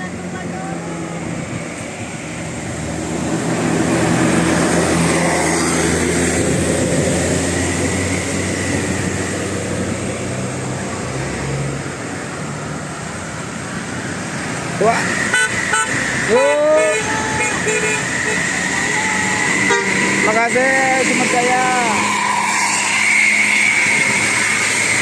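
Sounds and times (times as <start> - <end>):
bus passing by: 0.0 - 25.0.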